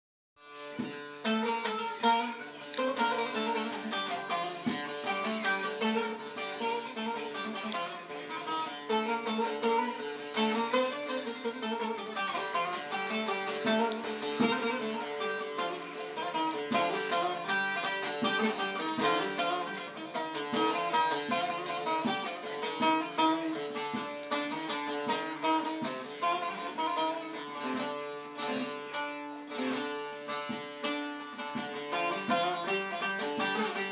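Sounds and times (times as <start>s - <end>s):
plucked lute melody: 0.4s - 33.9s.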